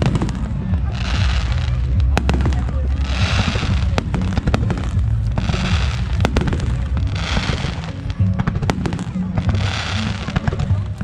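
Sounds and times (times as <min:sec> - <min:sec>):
fireworks bangs: 0:00.0 - 0:11.0
fireworks hiss and crackle: 0:00.0 - 0:11.0.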